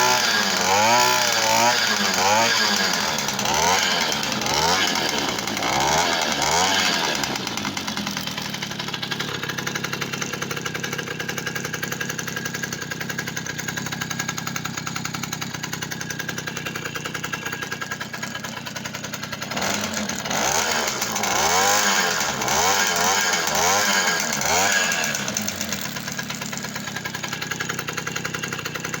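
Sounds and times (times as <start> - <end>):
moped engine revving and idling: 0.0 - 29.0.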